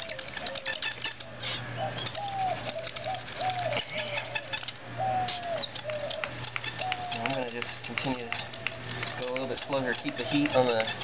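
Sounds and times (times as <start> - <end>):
spindle squeaking: 0.0 - 11.0.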